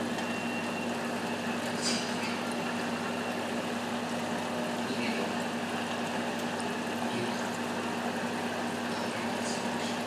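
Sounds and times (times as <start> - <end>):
oil bubbling and sizzling: 0.0 - 10.0.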